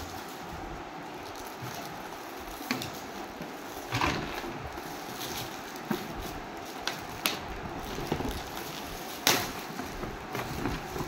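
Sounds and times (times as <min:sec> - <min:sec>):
foil gift wrap crinkling: 0:00.0 - 0:11.0.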